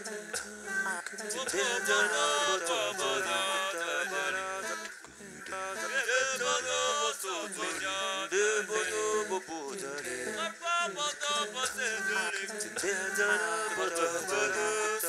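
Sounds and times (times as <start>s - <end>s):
man singing a cappella: 0.0s - 15.0s.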